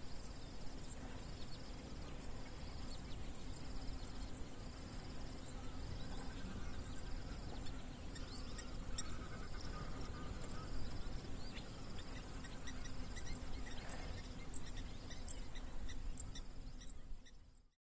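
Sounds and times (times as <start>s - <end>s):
insects trilling: 0.0s - 17.6s.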